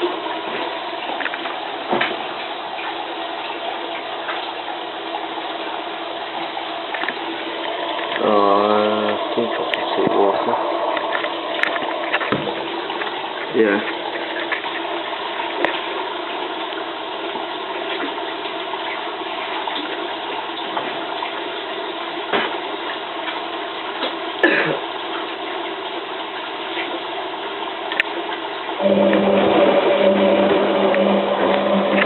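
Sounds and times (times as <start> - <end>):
washing machine motor humming: 0.0 - 32.0
washing machine water rushing: 0.0 - 32.0.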